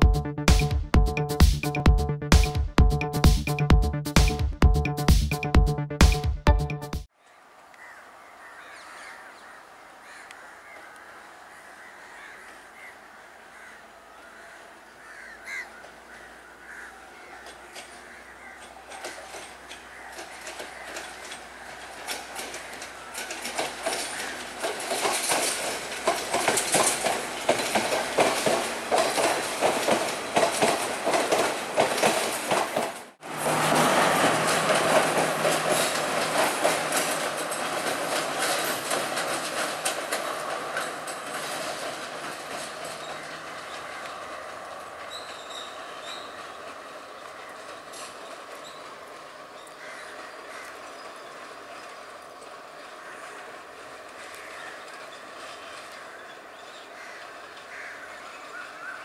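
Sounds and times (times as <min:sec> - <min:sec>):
wheels clacking over rail joints: 0:00.0 - 0:07.1, 0:10.1 - 0:59.0
train engine hum: 0:00.0 - 0:07.8, 0:09.7 - 0:59.0.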